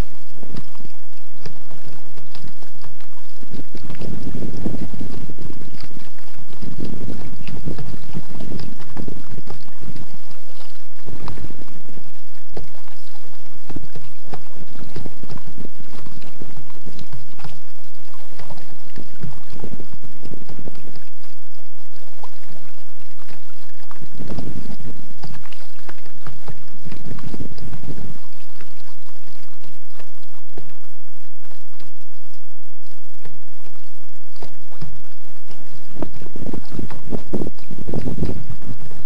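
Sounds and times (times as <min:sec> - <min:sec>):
water splashing around kayak: 0:00.0 - 0:39.0
wind buffeting microphone: 0:00.0 - 0:39.0.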